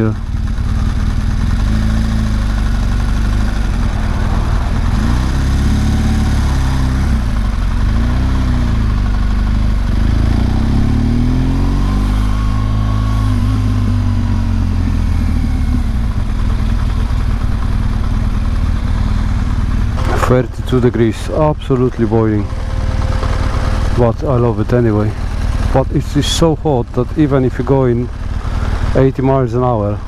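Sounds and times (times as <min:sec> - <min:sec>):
motorcycle engine revving: 0:00.0 - 0:30.0
road and wind noise: 0:00.0 - 0:30.0.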